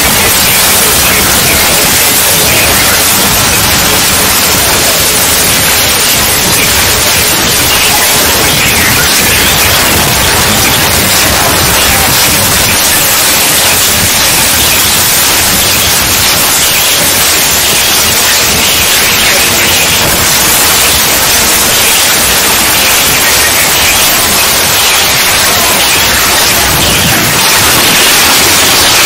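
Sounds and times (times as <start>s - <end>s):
loud static hiss: 0.0s - 29.0s.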